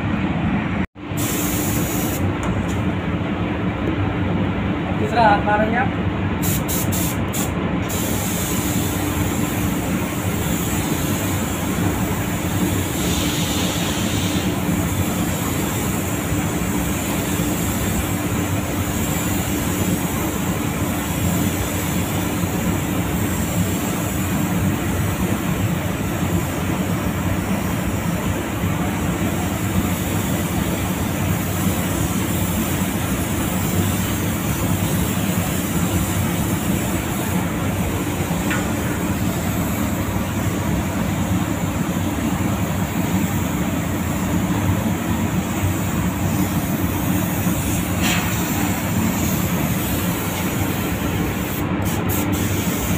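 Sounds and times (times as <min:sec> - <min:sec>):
steady low hum: 0:00.0 - 0:52.9
spray gun hissing: 0:01.1 - 0:02.3, 0:06.4 - 0:52.9.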